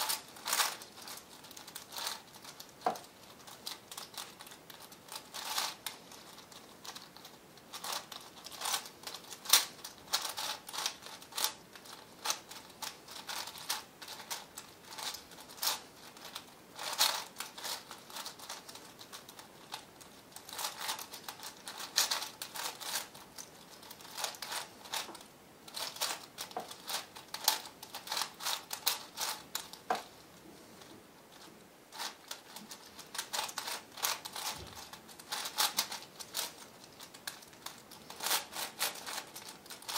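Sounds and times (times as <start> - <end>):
puzzle cube plastic clicks: 0.0 - 30.1, 32.0 - 39.9.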